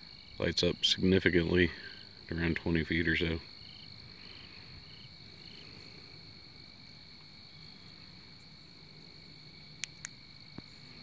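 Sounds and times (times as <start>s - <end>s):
crickets trilling: 0.0s - 11.0s
short cricket chirp: 0.0s - 11.0s.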